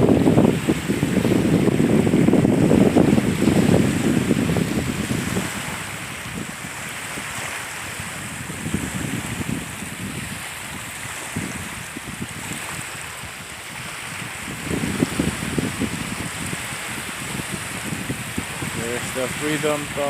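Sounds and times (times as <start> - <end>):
small waves washing at shore: 0.0 - 20.0
wind buffeting microphone: 0.0 - 20.0.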